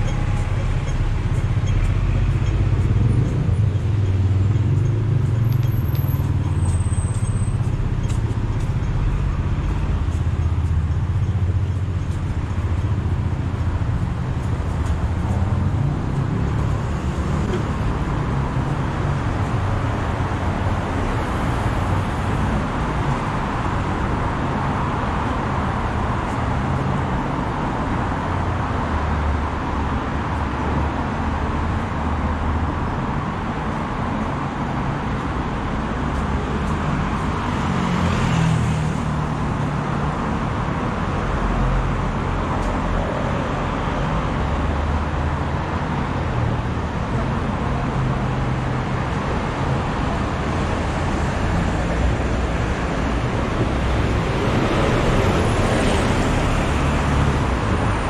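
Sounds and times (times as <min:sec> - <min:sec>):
bus passing close: 0:00.0 - 0:58.0
city road traffic: 0:00.0 - 0:58.0.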